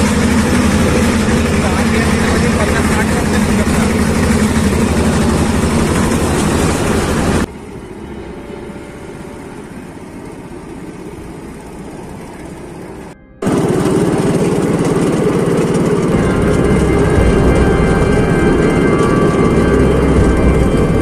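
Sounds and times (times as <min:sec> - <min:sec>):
rail trolley engine running: 0:00.0 - 0:21.0.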